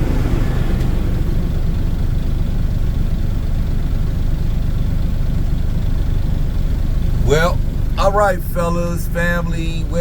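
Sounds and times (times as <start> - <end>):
diesel truck engine rumbling: 0.0 - 10.0.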